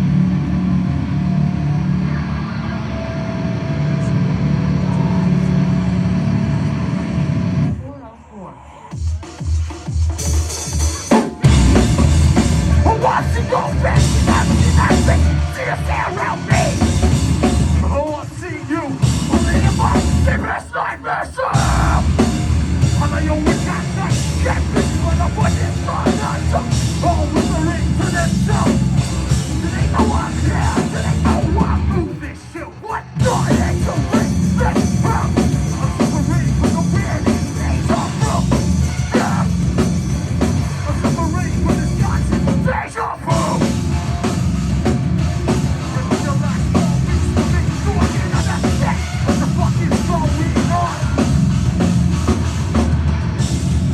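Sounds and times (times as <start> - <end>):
heavy metal band playing: 0.0 - 7.9, 9.0 - 53.9
yelled vocals: 1.3 - 9.4, 10.2 - 53.9.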